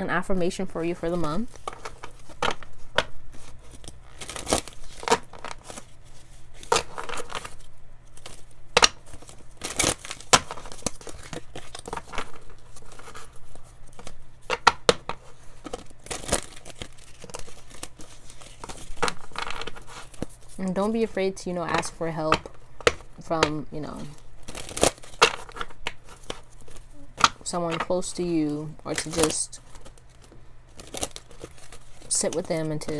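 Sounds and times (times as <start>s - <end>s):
cards being shuffled: 0.8s - 32.9s.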